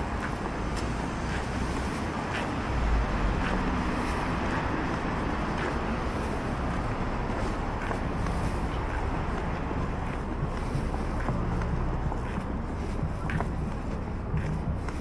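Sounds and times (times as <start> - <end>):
city street traffic: 0.0 - 15.0
faint footsteps: 0.0 - 15.0.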